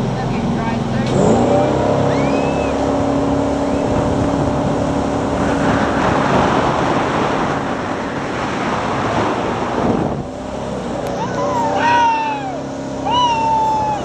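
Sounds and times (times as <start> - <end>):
boat engine hum: 0.0 - 14.0
water spray and wind rush: 0.0 - 14.0.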